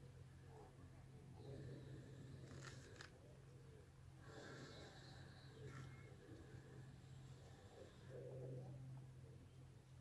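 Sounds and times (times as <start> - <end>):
soft low murmur: 0.0 - 10.0
steady low hum: 0.0 - 10.0.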